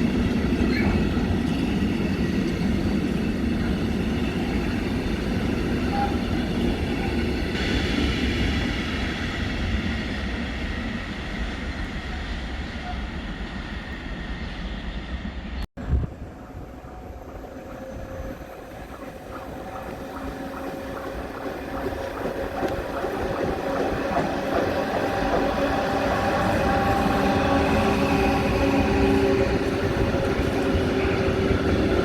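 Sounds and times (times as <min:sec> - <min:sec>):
steady tones from train: 0:00.0 - 0:32.0
train arriving: 0:00.0 - 0:32.0.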